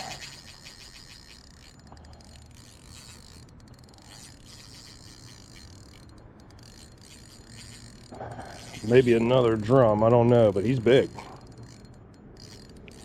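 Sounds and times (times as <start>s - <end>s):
fishing reel clicking: 0.0s - 13.0s.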